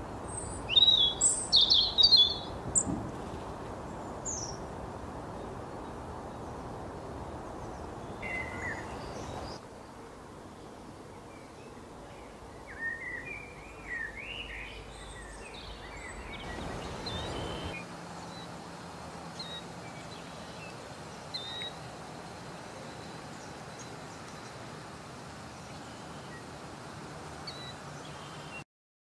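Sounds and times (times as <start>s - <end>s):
background hiss: 0.0s - 28.6s
birds chirping: 0.0s - 28.6s.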